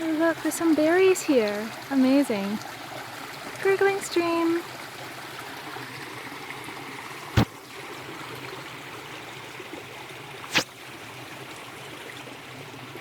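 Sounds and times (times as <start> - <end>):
stream gurgling: 0.0 - 13.0.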